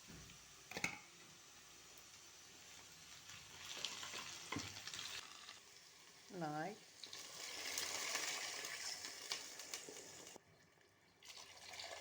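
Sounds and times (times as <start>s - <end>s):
food sizzling in oil: 0.0s - 10.4s.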